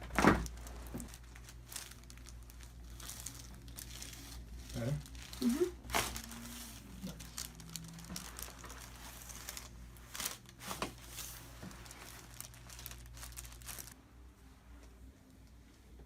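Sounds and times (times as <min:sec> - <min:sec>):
crinkling and rustling: 0:00.0 - 0:14.0.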